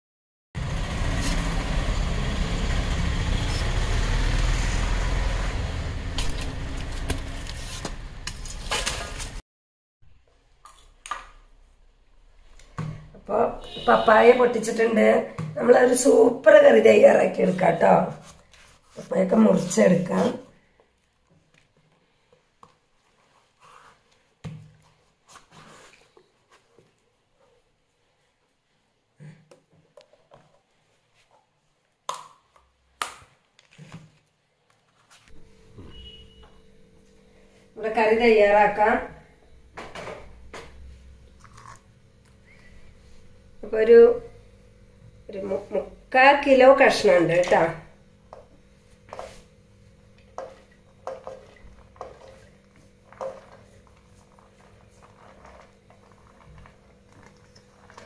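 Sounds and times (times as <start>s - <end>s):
faint indoor room sounds: 10.1s - 58.0s.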